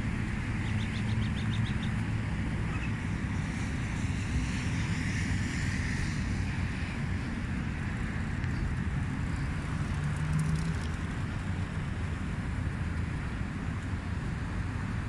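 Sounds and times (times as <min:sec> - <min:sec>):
road traffic: 0:00.0 - 0:15.0
wind rumbling on microphone: 0:00.0 - 0:15.0.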